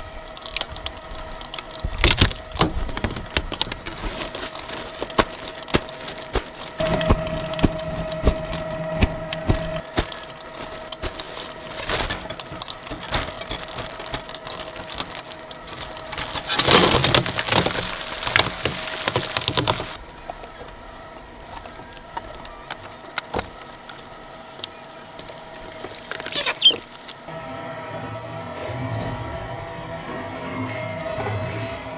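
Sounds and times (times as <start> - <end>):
cracking and splintering material: 0.0 - 27.3
shredder running: 0.0 - 30.3.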